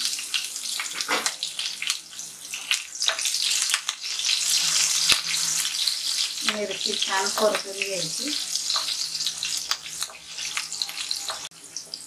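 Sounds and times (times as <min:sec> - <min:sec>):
chillies sizzling in hot oil: 0:00.0 - 0:12.0.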